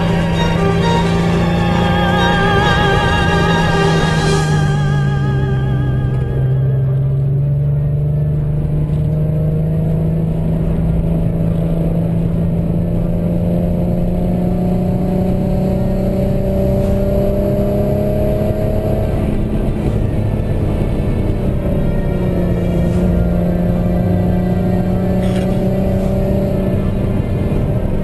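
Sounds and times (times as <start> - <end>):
car engine drone inside cabin: 0.0 - 28.0.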